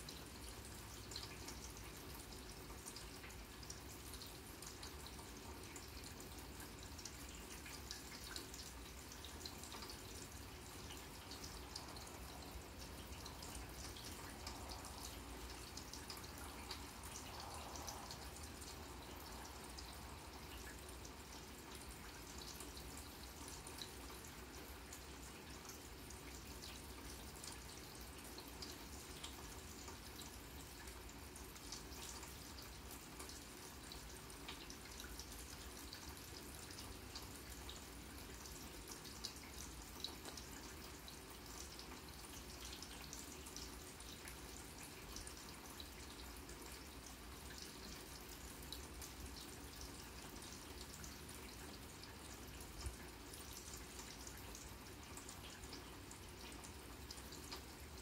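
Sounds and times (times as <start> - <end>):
rain hissing on grass: 0.0 - 58.0.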